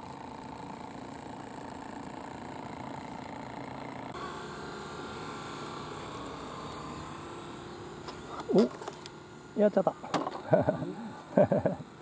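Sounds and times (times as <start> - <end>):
model steam engine humming: 0.0 - 12.0.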